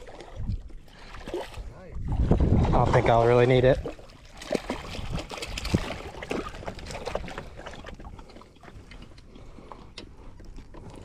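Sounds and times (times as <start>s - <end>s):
water splashing around kayak: 0.0s - 11.0s.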